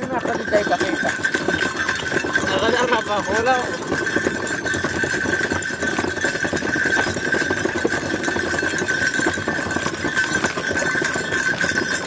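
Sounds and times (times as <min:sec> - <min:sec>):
horse hooves clip-clopping: 0:00.0 - 0:12.0
wooden cart rattling and knocking: 0:00.0 - 0:12.0.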